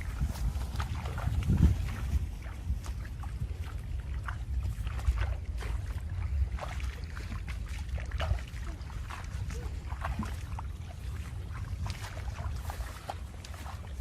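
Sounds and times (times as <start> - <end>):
low steady rumble: 0.0 - 14.0
water sloshing and splashing: 0.0 - 14.0.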